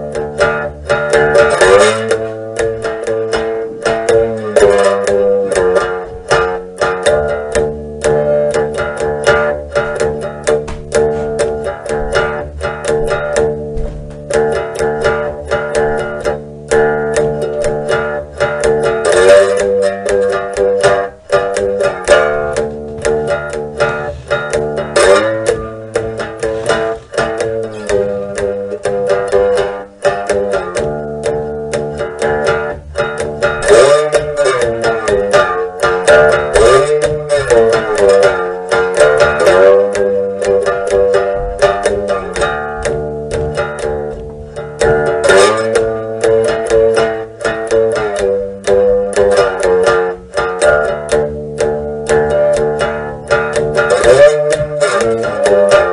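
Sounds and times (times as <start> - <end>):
fast plucked string music: 0.0 - 55.9.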